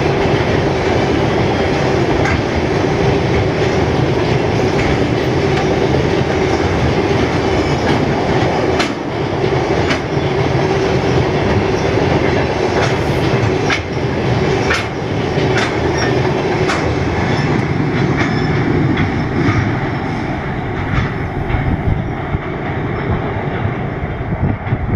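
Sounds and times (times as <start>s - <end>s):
freight train rumbling over bridge: 0.0s - 24.9s.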